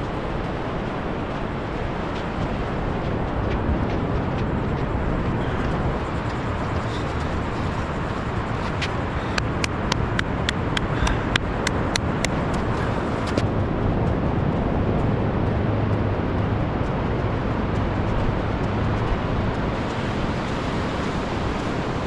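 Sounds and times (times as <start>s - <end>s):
low rumble: 0.0s - 22.0s
wind: 0.0s - 22.0s.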